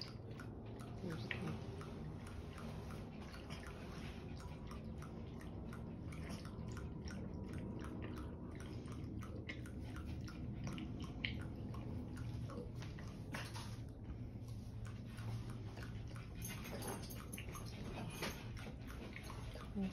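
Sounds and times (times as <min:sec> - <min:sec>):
dog lapping water: 0:00.0 - 0:19.9.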